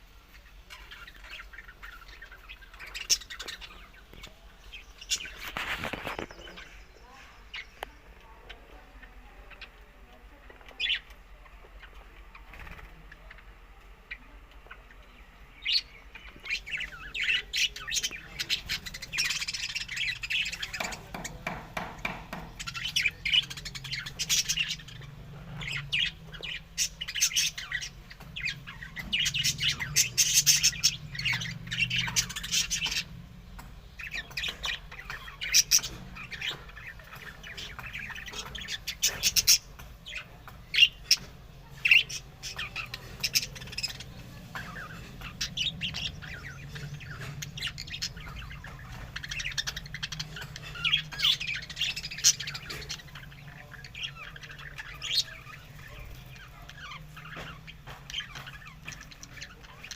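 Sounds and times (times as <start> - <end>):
budgerigars chattering and squawking: 0.2 - 59.9.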